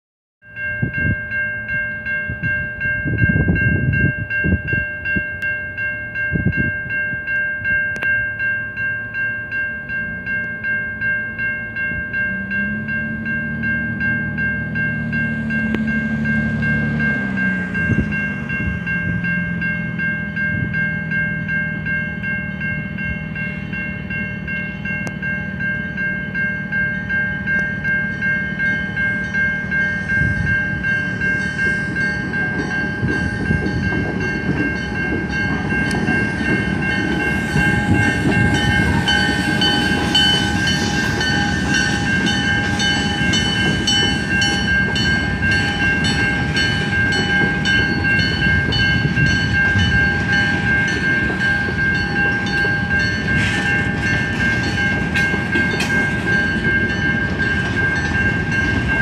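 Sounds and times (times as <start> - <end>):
crossing warning bell ringing: 0.4 - 59.0
diesel locomotive rumble: 0.5 - 59.0.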